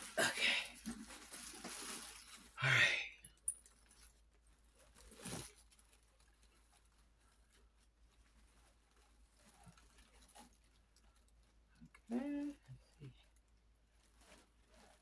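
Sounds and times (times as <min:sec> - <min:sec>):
tissue paper rustle: 0:00.0 - 0:02.6, 0:03.6 - 0:11.7, 0:13.3 - 0:15.0.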